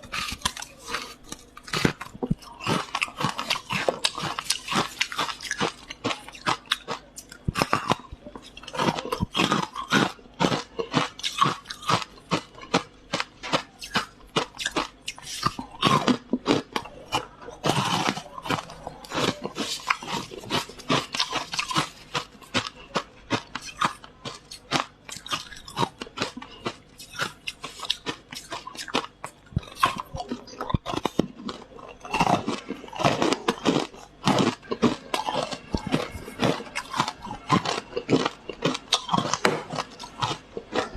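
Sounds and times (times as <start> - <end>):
frost being chewed: 0.0 - 40.9.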